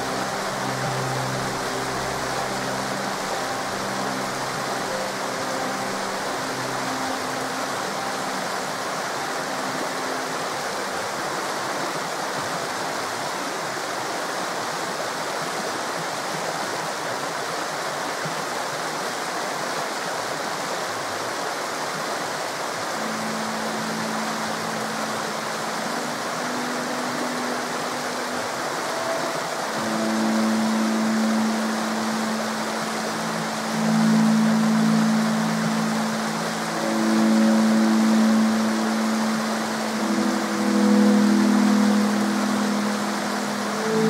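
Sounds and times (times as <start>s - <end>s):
soft background music: 0.0s - 14.5s, 21.4s - 44.0s
river water flowing over rocks: 0.0s - 44.0s.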